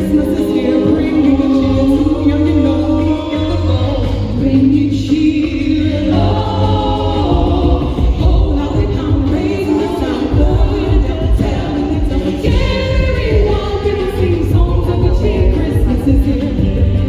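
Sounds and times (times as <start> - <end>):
group of voices singing: 0.0 - 17.0
music with heavy bass: 0.0 - 17.0.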